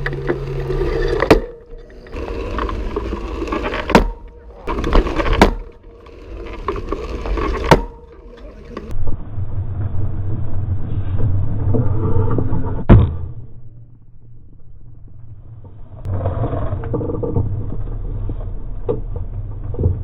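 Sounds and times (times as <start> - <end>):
bicycle rolling noise: 0.0 - 12.8, 13.6 - 20.0.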